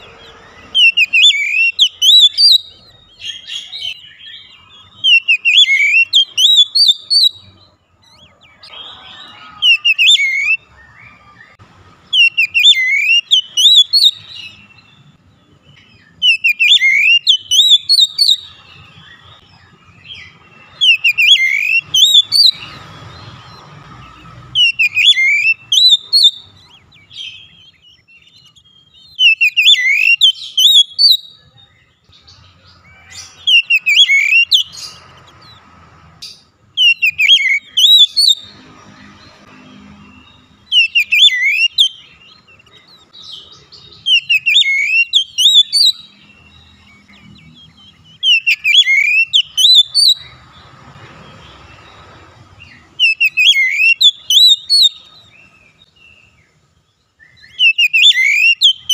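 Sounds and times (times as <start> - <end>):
bird singing whistled notes: 0.0 - 58.9.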